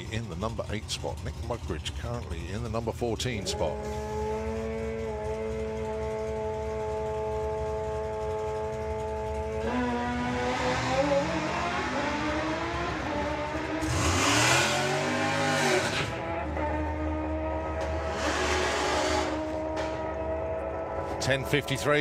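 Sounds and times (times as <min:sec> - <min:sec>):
drag racing cars accelerating: 0:00.0 - 0:22.0.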